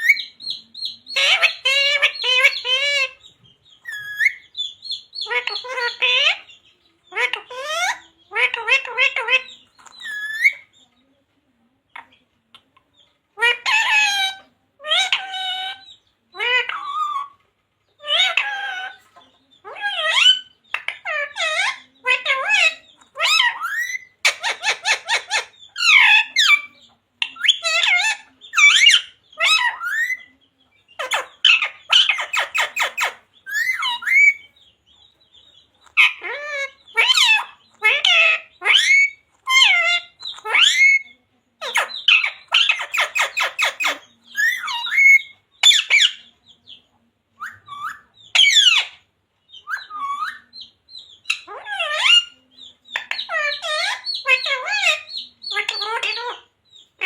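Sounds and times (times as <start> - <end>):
parrot squawking and chattering: 0.0 - 10.8, 13.4 - 17.4, 18.0 - 30.3, 30.9 - 34.7, 35.8 - 46.8, 47.4 - 57.0.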